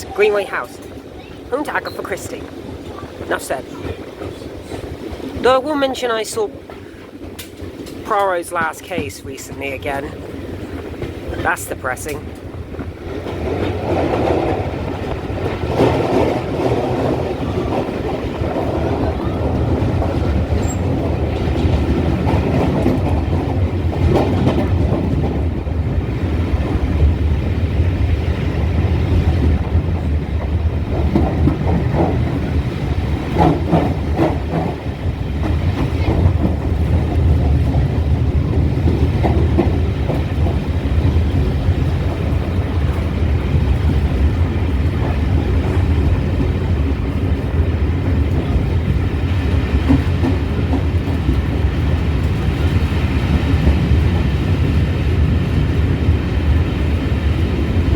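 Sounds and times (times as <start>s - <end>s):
wheels clicking over rail joints: 0.0s - 26.2s, 28.5s - 57.9s
train rumble in tunnel: 0.0s - 57.9s.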